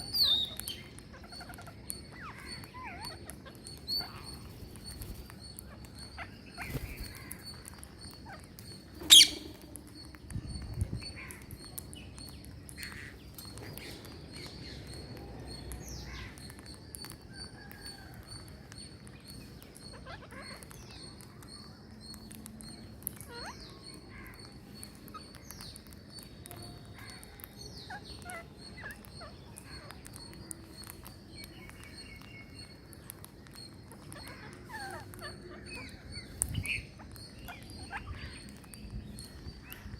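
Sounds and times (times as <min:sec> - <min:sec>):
parrots chirping and squawking: 0:00.0 - 0:39.9.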